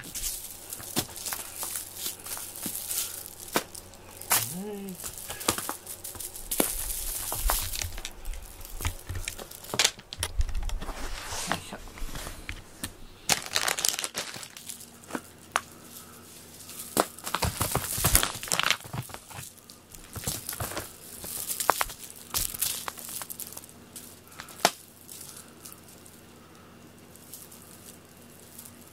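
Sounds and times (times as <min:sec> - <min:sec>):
crinkly toy rustling: 0:00.0 - 0:28.9.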